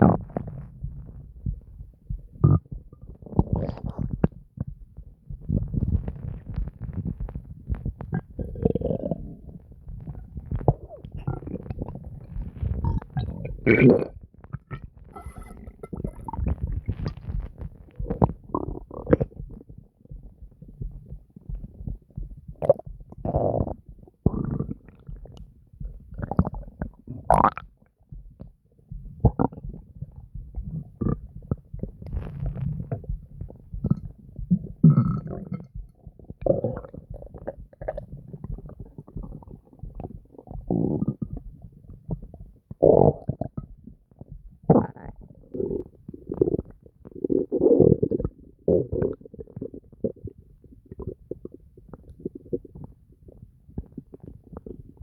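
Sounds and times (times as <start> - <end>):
stomach gurgling and growling: 0.0 - 55.0.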